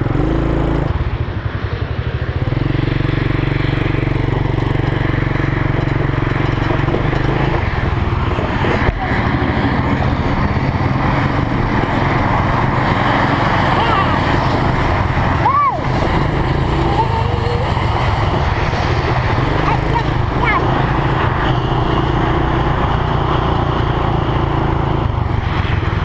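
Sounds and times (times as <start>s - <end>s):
quad bike engine running: 0.0s - 25.3s.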